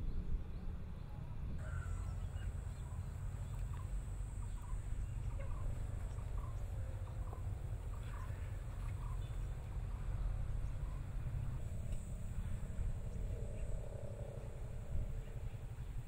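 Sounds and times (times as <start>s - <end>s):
steady low rumble: 0.0s - 16.0s
birds chirping: 1.6s - 16.0s.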